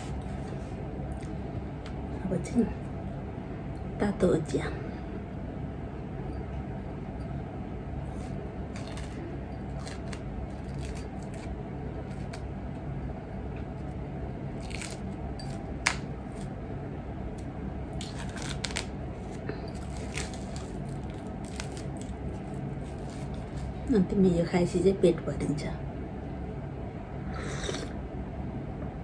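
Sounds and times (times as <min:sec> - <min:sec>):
low room hum: 0:00.0 - 0:29.0.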